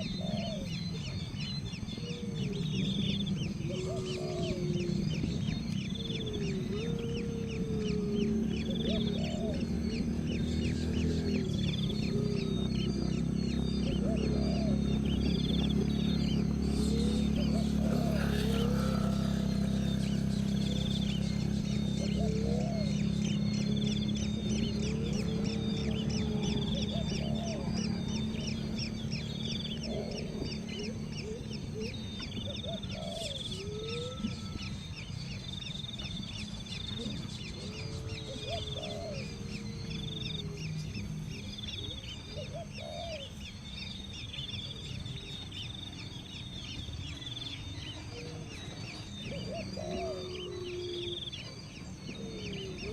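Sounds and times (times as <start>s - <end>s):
low gliding bird calls: 0.0s - 52.9s
steady low hum: 0.0s - 52.9s
rapid high bird chirping: 2.6s - 52.9s.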